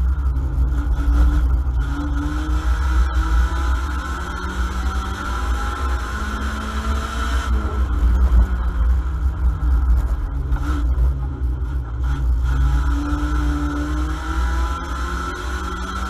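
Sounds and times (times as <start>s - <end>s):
race car engine running: 0.0s - 16.0s.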